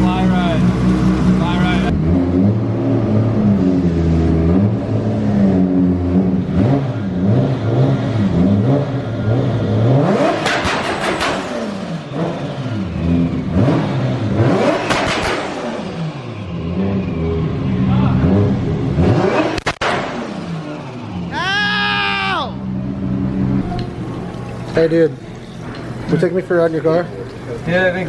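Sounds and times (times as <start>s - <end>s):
car engine revving and crackling: 0.0s - 21.4s, 22.6s - 28.0s.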